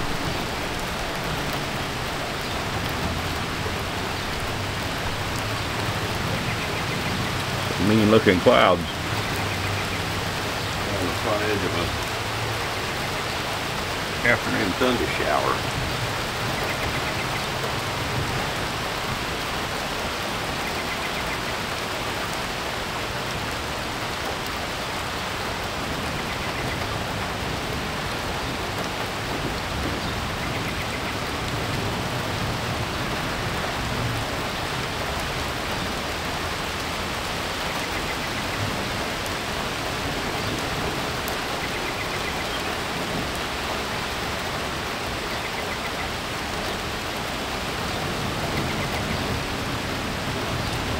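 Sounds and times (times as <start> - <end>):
rain hissing: 0.0 - 50.9.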